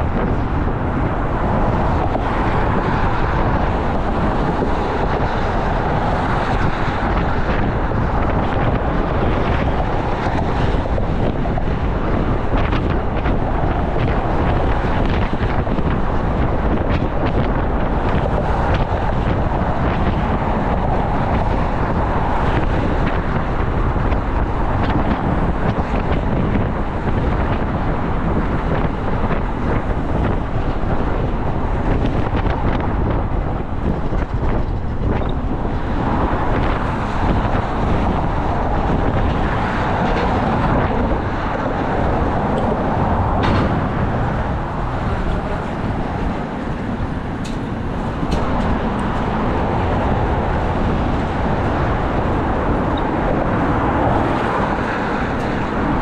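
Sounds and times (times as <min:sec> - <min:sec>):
traffic noise: 0:00.0 - 0:56.0
wind on microphone: 0:00.0 - 0:56.0.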